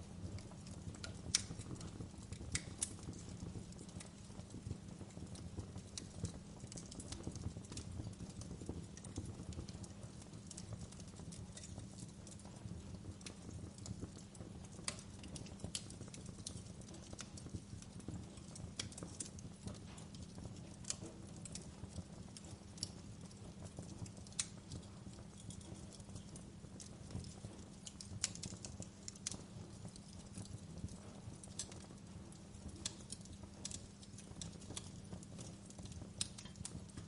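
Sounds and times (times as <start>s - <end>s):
low rumble of flames: 0.0s - 37.0s
wood fire crackling and popping: 0.0s - 37.0s.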